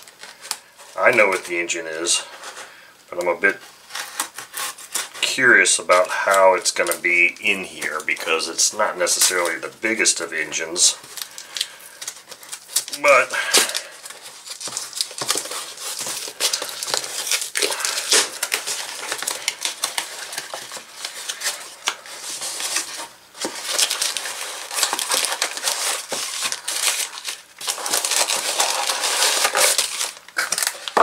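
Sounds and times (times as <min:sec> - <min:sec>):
packaging crinkling: 0:00.0 - 0:31.0.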